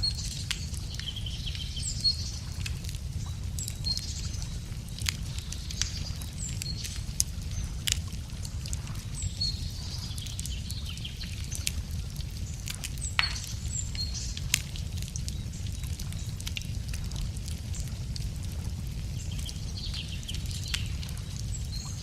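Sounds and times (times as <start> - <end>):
small birds chirping: 0.0 - 18.3, 19.0 - 22.0
low steady rumble: 0.0 - 22.0
wood fire crackling and popping: 0.0 - 22.0.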